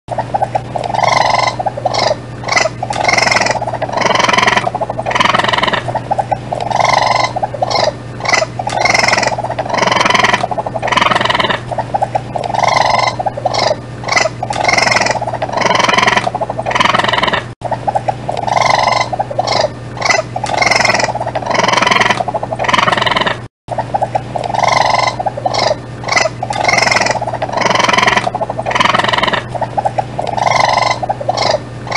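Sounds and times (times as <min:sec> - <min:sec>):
steady low hum: 0:00.1 - 0:31.9
raccoon trilling calls: 0:00.9 - 0:05.8, 0:06.6 - 0:17.4, 0:18.4 - 0:23.4, 0:24.5 - 0:31.9.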